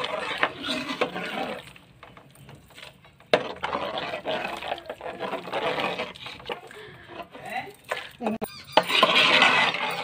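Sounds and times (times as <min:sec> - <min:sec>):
spoon stirring milk in metal pot: 0:00.0 - 0:07.5, 0:08.7 - 0:10.0.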